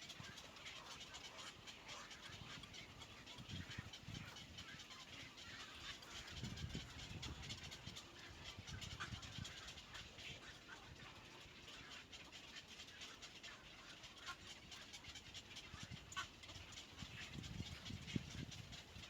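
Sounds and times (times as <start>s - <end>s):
soft dove calls: 0.0s - 19.0s.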